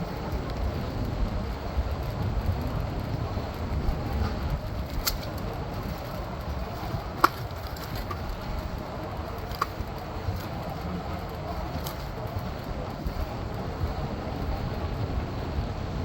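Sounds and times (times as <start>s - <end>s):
street traffic noise: 0.0s - 16.0s
wind rumble on microphone: 0.0s - 16.0s.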